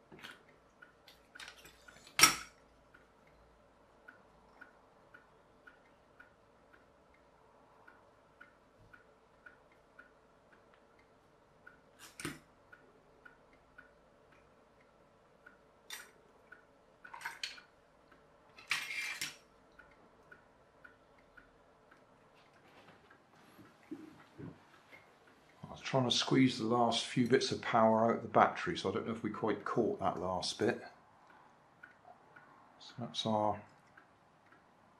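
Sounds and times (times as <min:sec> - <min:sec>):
clock ticking: 0:00.0 - 0:18.6, 0:19.3 - 0:34.9.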